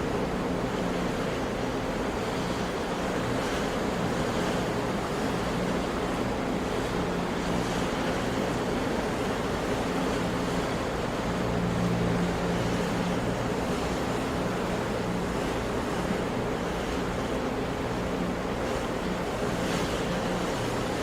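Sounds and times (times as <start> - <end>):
sea surf washing: 0.0 - 21.0.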